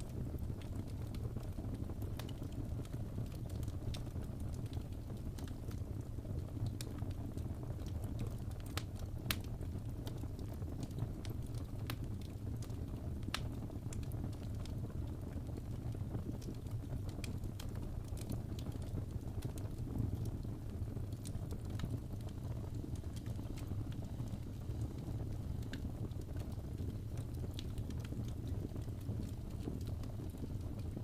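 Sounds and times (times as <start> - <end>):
fire crackling and popping: 0.0 - 31.0
fire flames rumbling: 0.0 - 31.0.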